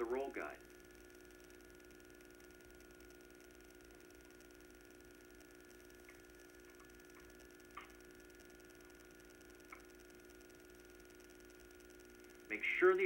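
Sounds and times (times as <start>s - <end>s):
steady electrical hum: 0.0s - 13.0s
faint clicks: 0.6s - 12.6s.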